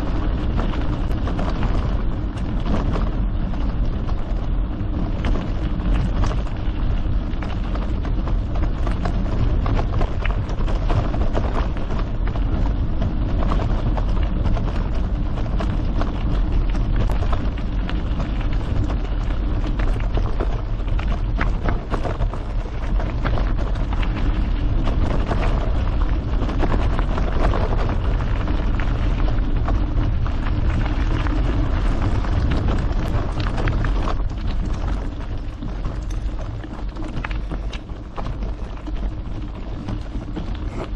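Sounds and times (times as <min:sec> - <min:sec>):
bike rattling: 0:00.0 - 0:40.9
bike tyres crackling over stones: 0:00.0 - 0:40.9
wind rumble on microphone: 0:00.0 - 0:40.9.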